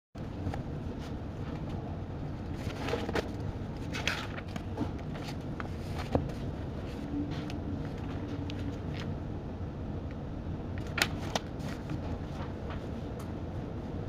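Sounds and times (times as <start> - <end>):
air handling hum: 0.2 - 14.0.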